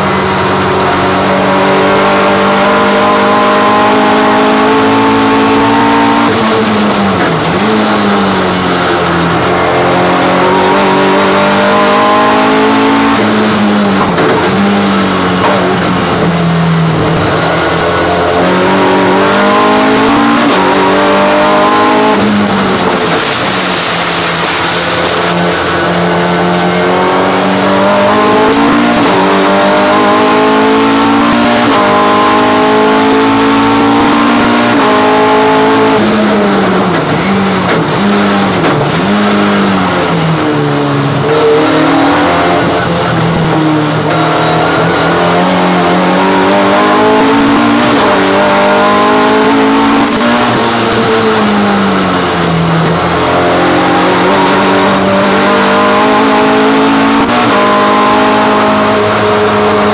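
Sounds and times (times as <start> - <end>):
race car engine shifting gears: 0.0 - 59.9.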